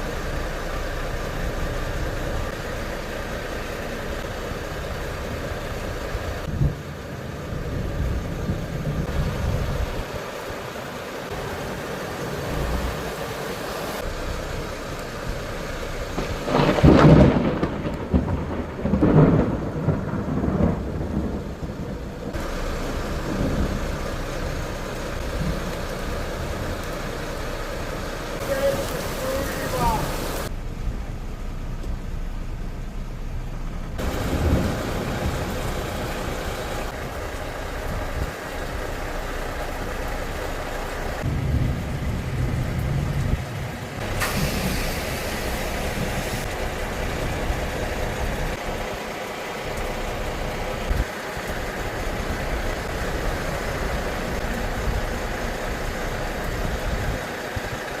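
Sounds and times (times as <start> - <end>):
vehicle engine: 0.0 - 57.9
road noise: 0.0 - 58.0.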